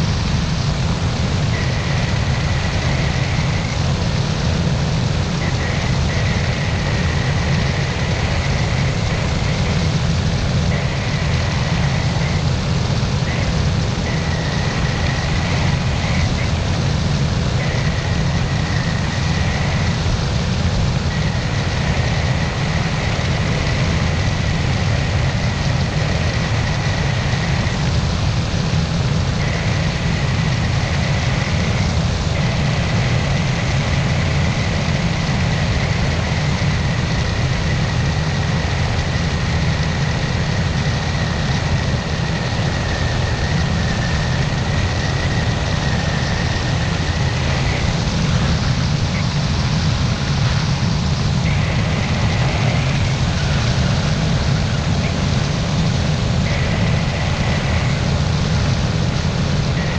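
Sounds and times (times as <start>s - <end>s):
microlight engine droning: 0.0s - 59.9s
rush of air: 0.0s - 59.9s
thin high whine: 0.0s - 59.9s.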